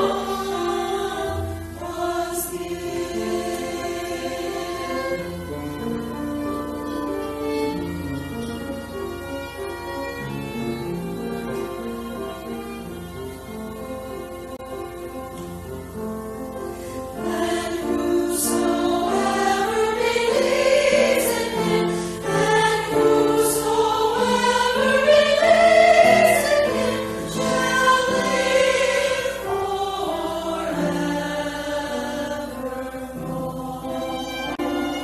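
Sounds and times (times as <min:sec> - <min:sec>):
choir singing: 0:00.0 - 0:15.4, 0:16.8 - 0:35.0.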